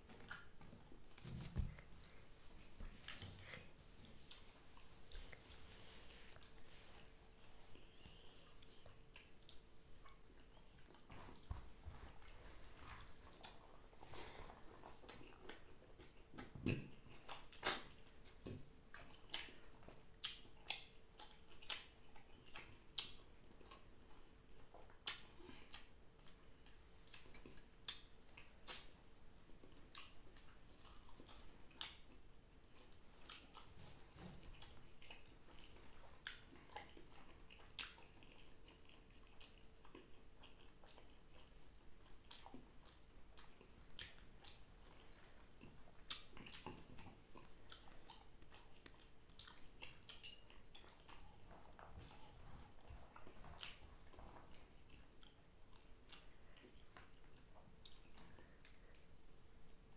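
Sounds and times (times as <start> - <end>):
person eating with hands: 0.0 - 59.2.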